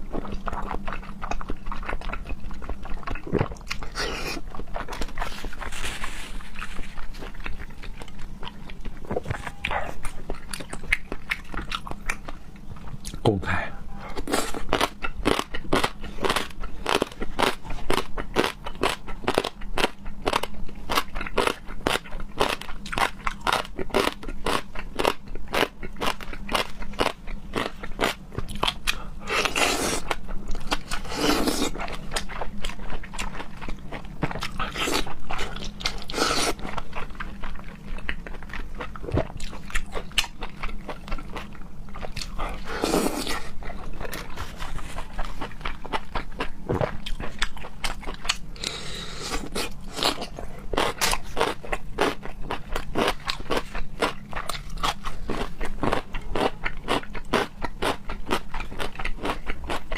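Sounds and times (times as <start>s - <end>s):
chewing and crunching: 0.0s - 13.4s, 14.1s - 59.9s.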